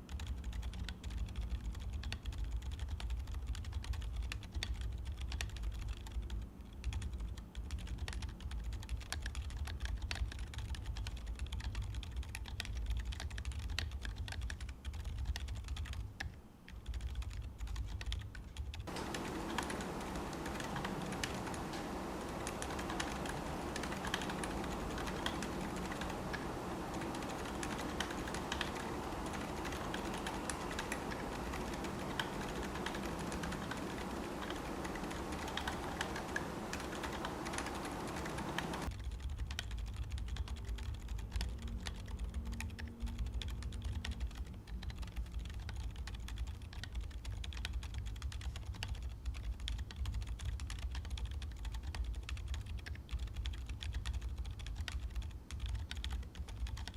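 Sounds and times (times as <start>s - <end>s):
soft keyboard typing: 0.0s - 56.9s.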